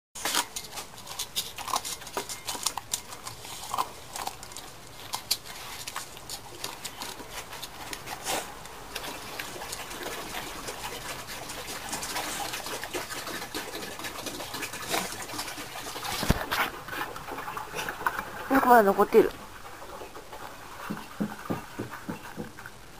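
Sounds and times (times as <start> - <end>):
dog chewing and licking: 0.2 - 22.8.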